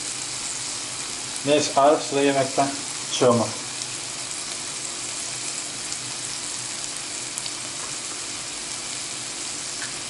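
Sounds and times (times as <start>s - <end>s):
sausage sizzling in a pan: 0.0s - 10.0s.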